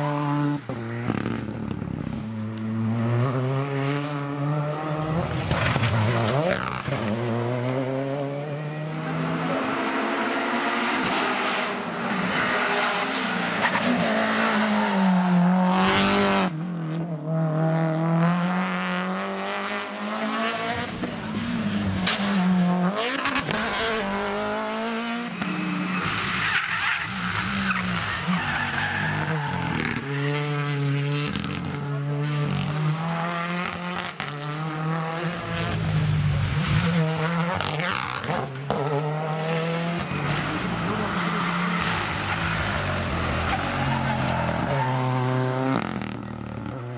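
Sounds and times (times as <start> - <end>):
rally car engines at full throttle: 0.0 - 46.9.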